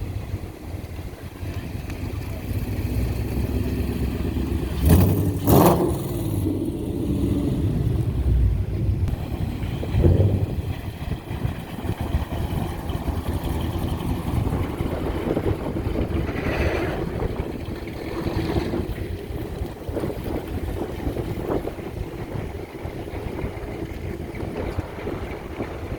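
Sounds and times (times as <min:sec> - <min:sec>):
vehicle engine driving by: 0:00.0 - 0:25.9
wind buffeting microphone: 0:00.0 - 0:25.9.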